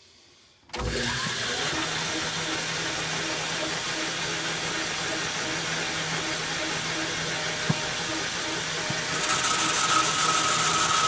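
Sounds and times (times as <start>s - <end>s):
metal lathe running: 1.0s - 11.0s.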